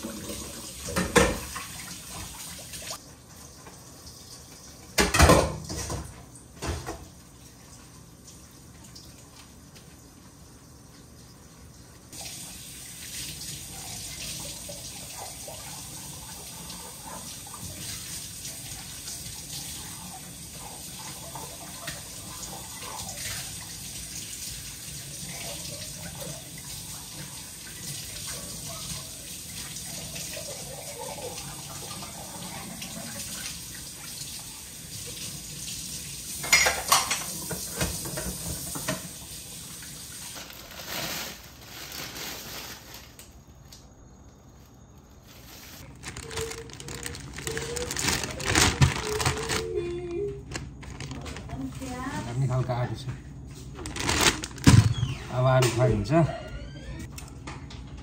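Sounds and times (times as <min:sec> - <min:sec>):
tap water running and splashing: 0:00.0 - 0:43.2, 0:45.8 - 0:52.8.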